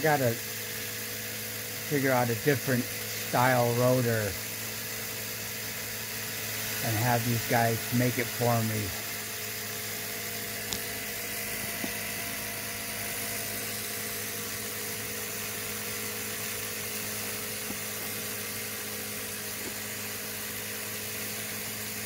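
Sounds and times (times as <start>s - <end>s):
even hum: 0.0s - 22.0s
motor rotor whirring: 0.0s - 22.0s.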